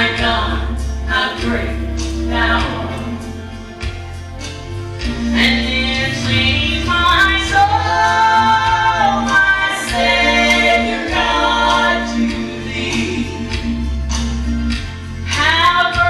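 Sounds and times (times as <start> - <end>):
gospel singing voices: 0.0 - 16.0
low bass notes: 0.0 - 16.0.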